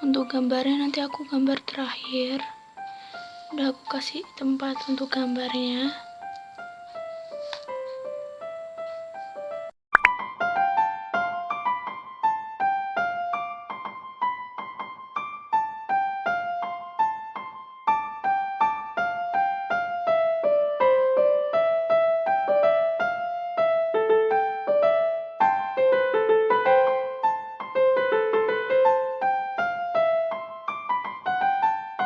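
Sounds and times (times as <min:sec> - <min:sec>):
light piano melody: 0:00.0 - 0:32.0.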